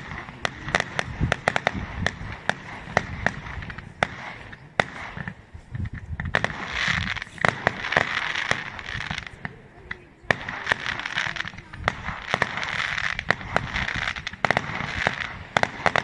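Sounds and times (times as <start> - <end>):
fireworks bangs and cracks: 0.0 - 16.0
hissing crackle: 0.0 - 16.0.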